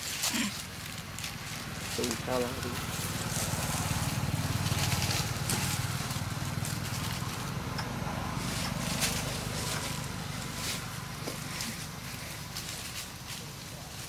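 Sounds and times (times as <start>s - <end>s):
crackles of dry leaf litter: 0.0s - 14.0s.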